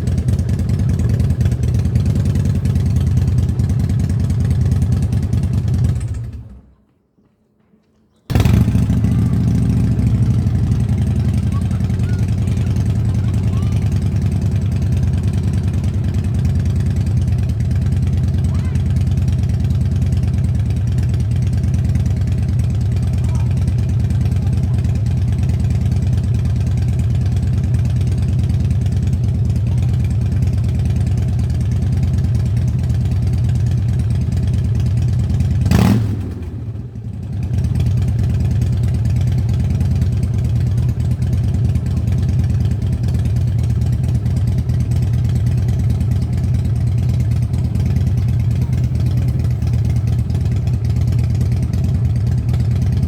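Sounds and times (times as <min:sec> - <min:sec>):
motorcycle engine idling: 0:00.0 - 0:06.7, 0:08.3 - 0:53.0.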